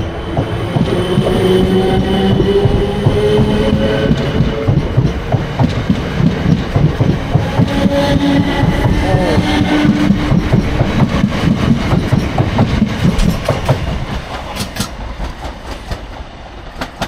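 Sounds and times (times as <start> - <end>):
train wheels clattering over rail joints: 0.3 - 17.0.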